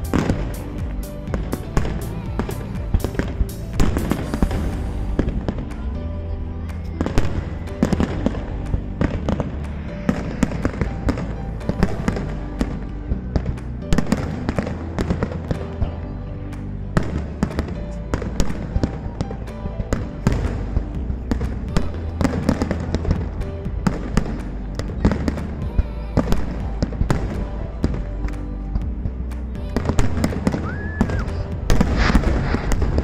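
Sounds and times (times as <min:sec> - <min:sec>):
fireworks bangs and crackles: 0:00.0 - 0:06.0, 0:06.6 - 0:33.0
loud music with steady bass: 0:00.0 - 0:33.0.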